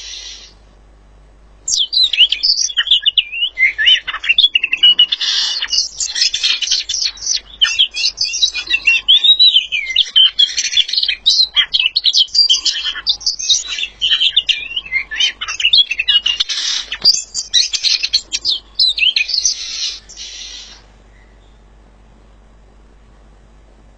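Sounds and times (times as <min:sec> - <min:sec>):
songbird singing: 0:00.0 - 0:00.6, 0:01.6 - 0:22.9.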